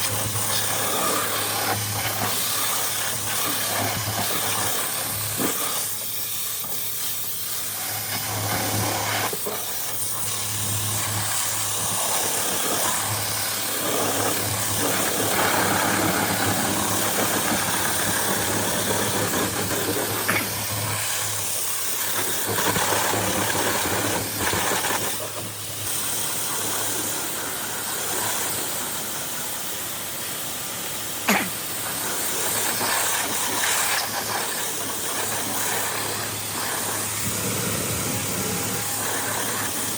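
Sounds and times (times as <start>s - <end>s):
pressure washer spraying water: 0.0s - 39.9s
pump motor hum: 0.0s - 39.9s.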